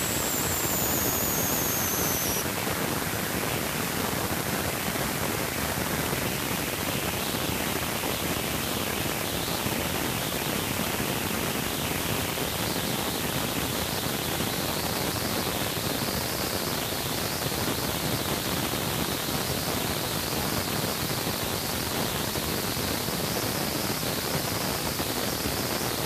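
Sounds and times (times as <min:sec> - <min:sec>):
steady static hiss: 0:00.0 - 0:26.0.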